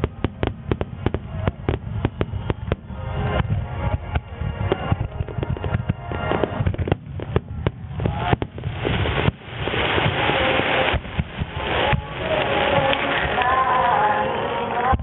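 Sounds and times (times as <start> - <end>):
fireworks bangs: 0.0 - 14.0
deep rumble: 0.0 - 15.0.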